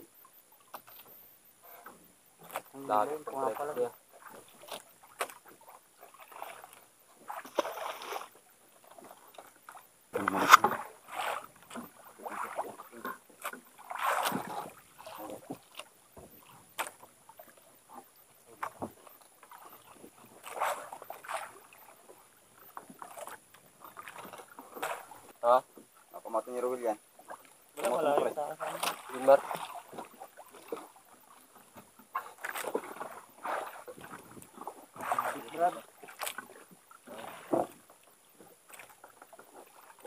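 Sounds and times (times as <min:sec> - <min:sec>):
water lapping against a boat: 0:00.0 - 0:40.0.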